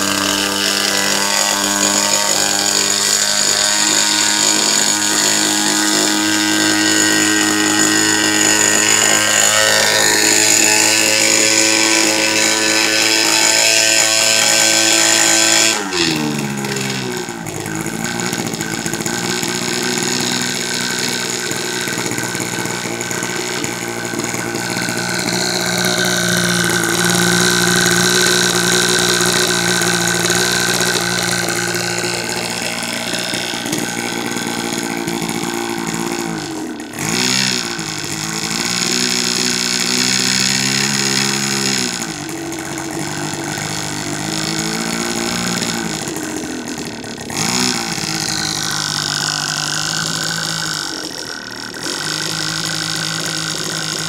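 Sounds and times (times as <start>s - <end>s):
model airplane engine buzzing: 0.0s - 54.0s.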